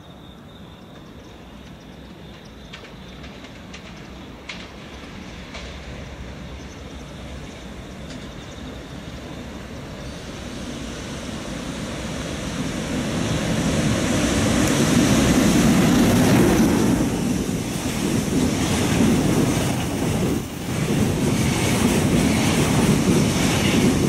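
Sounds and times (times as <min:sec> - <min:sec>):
wheels on rail: 0:00.7 - 0:24.0
electric locomotive running: 0:01.0 - 0:24.0.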